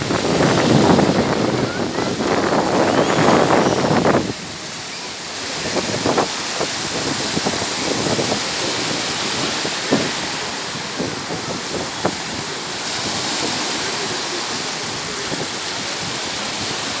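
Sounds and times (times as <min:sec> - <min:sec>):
sea waves washing onto beach: 0:00.0 - 0:17.0
wind on microphone: 0:00.0 - 0:17.0.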